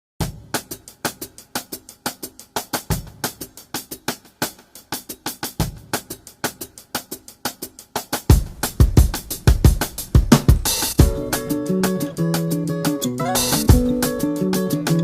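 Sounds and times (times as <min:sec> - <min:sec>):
drum-led beat music: 0:00.2 - 0:15.0.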